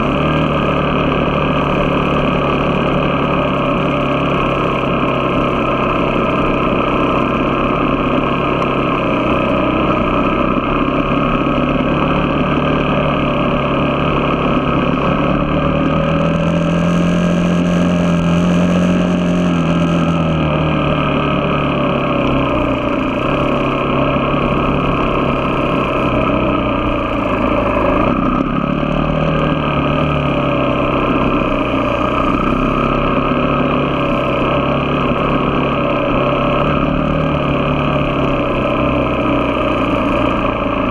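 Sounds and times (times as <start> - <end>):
road noise: 0.0 - 40.9
vehicle engine running: 0.0 - 40.9.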